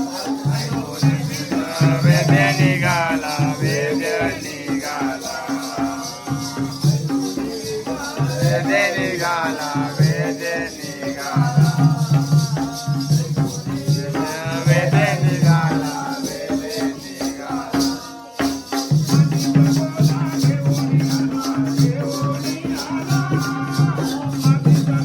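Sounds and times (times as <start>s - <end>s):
person singing: 0.0s - 18.5s, 19.4s - 25.0s
jingling percussion: 0.0s - 25.0s.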